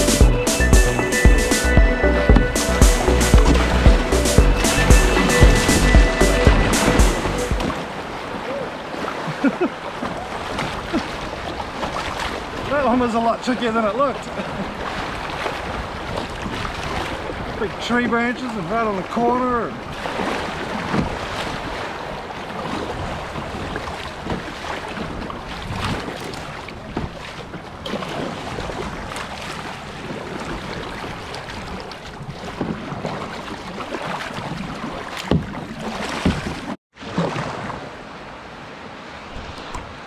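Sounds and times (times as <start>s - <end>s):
paddle blades splashing: 0.0s - 40.0s
river water rushing: 0.0s - 40.0s.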